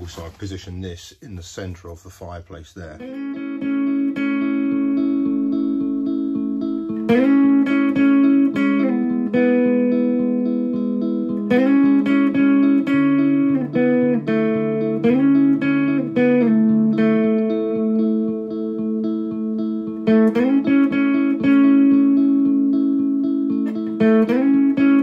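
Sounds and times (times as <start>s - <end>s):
guitar music: 3.0s - 25.0s.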